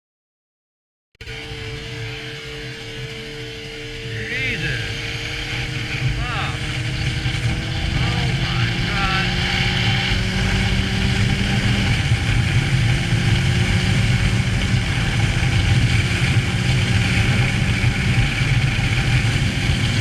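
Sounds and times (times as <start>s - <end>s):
motorcycle engine running: 1.2s - 20.0s.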